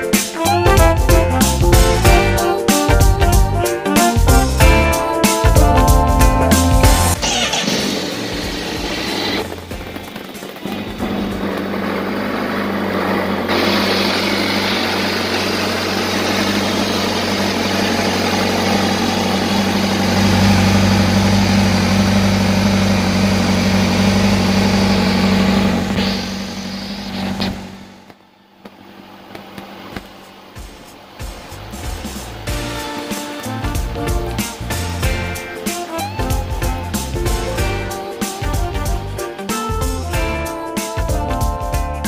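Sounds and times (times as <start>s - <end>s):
motorcycle engine idling: 5.6s - 41.6s.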